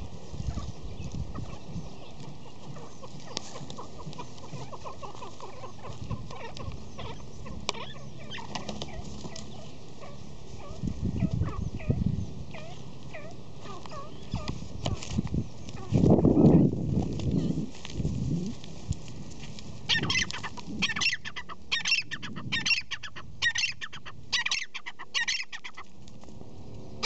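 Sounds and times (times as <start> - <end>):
bird clucking calls: 0.0 - 17.8, 19.8 - 26.0.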